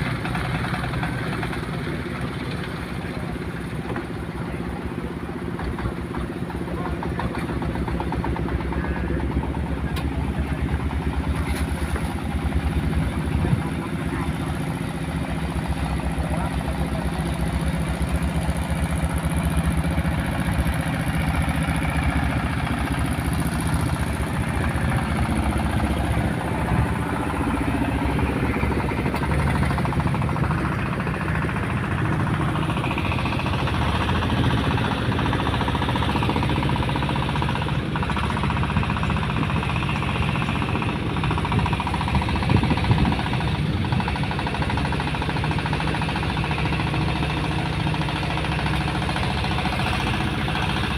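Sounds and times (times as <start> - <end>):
boat engine knocking: 0.0 - 50.9.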